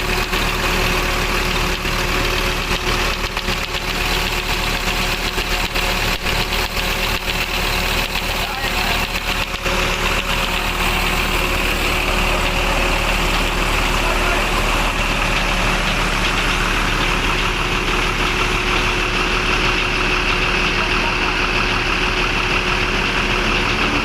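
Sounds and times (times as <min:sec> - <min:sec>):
bus engine running: 0:00.0 - 0:24.0
high-pitched fan belt whine: 0:00.0 - 0:24.0.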